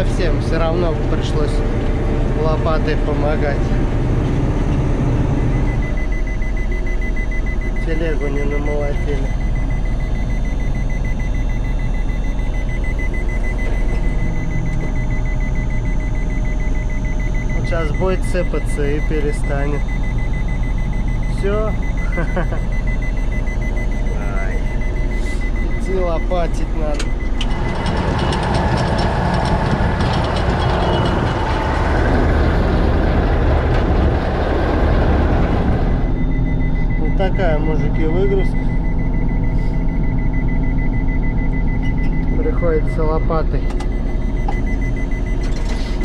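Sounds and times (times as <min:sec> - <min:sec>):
diesel engine running: 0:00.0 - 0:46.0
rapid high warning beeps: 0:00.0 - 0:46.0.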